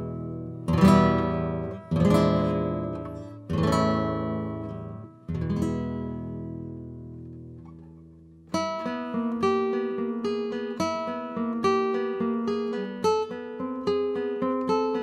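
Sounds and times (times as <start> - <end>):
classical guitar: 0.0 - 15.0.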